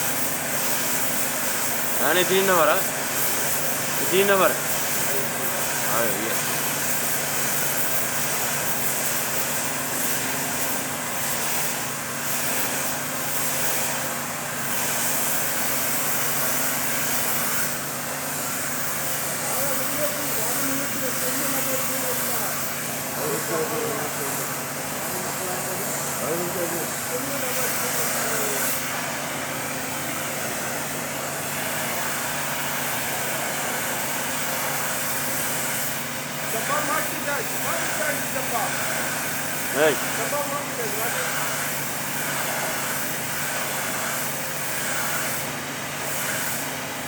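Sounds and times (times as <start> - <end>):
loud hiss: 0.0 - 47.0.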